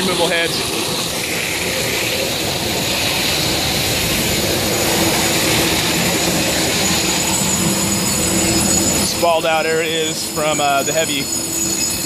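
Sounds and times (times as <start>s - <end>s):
hand grinders whining: 0.0s - 12.0s.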